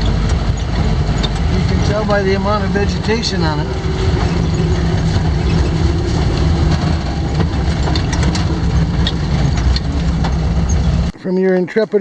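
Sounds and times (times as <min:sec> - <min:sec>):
vehicle engine running: 0:00.0 - 0:11.8
tyres on dirt road: 0:00.0 - 0:12.0.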